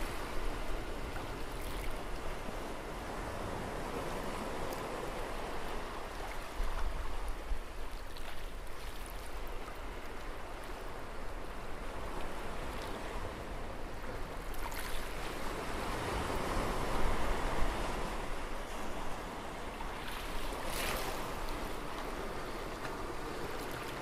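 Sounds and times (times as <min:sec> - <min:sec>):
surging sea water: 0:00.0 - 0:24.0.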